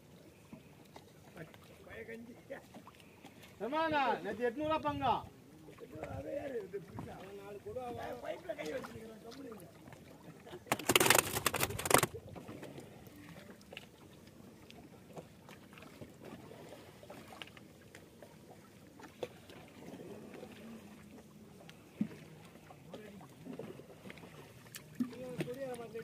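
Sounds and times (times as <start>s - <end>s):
water lapping against hull: 0.0s - 26.0s.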